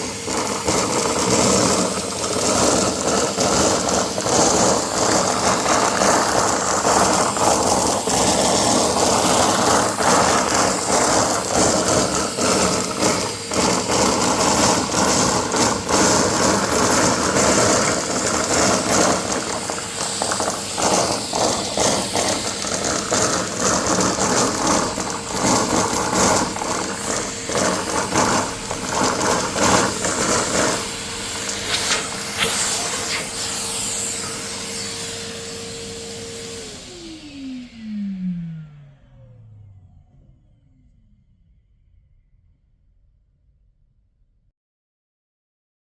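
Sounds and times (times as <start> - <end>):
vacuum cleaner running: 0.0 - 41.5
steady whine: 0.0 - 43.6.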